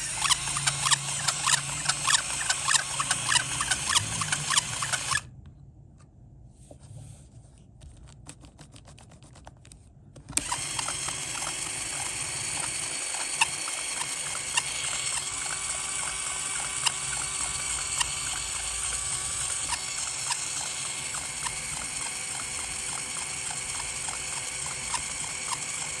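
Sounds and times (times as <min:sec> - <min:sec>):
toy gears whirring and grinding: 0:00.0 - 0:05.3, 0:10.4 - 0:26.0.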